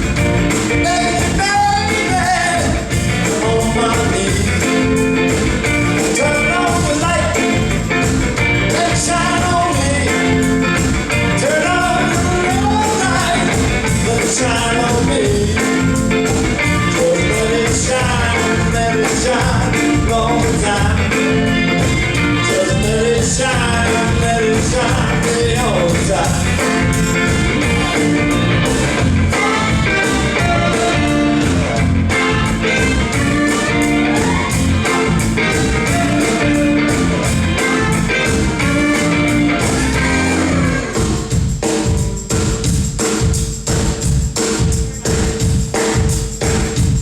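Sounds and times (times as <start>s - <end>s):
lead melody line: 0.0s - 41.4s
drums and bass beat: 0.0s - 47.0s
rock band playing: 0.0s - 47.0s.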